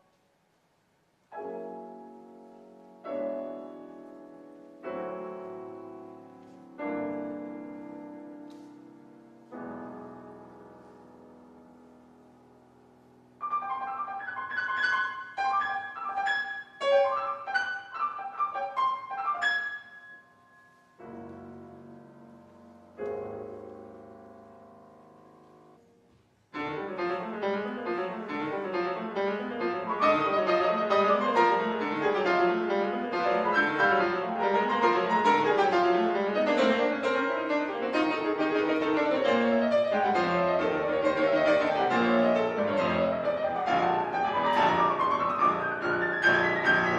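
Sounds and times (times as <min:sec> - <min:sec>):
grand piano playing: 0:01.3 - 0:46.9.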